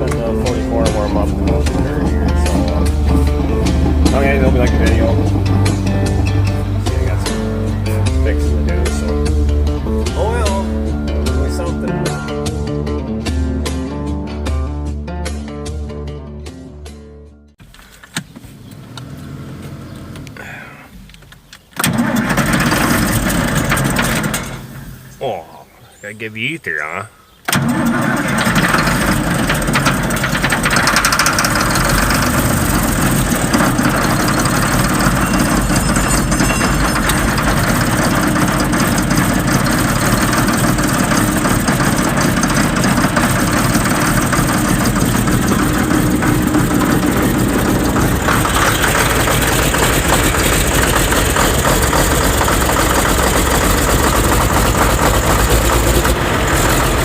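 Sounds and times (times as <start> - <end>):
engine idling: 0.0 - 12.7, 21.8 - 25.4, 27.5 - 57.0.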